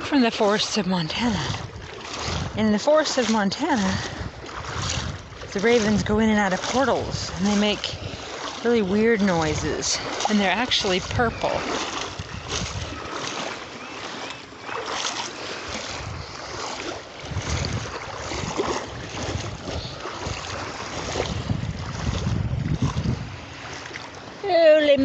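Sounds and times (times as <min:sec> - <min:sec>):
wind buffeting microphone: 0:00.0 - 0:14.2, 0:14.8 - 0:25.0
surf washing on beach: 0:00.0 - 0:25.0.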